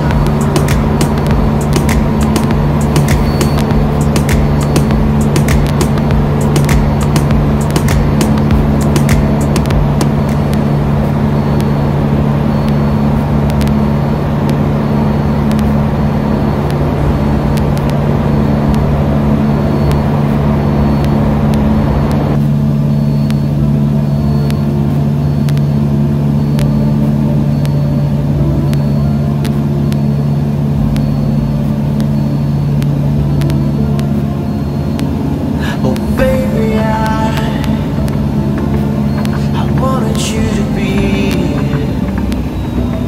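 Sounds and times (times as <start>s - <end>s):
airplane engine and propeller droning: 0.0s - 43.0s.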